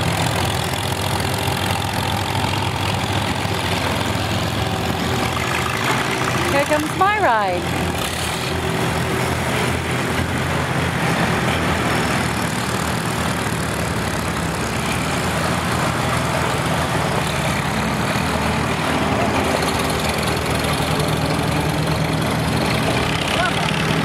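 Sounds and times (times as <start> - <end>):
tractor engines running: 0.0 - 24.0.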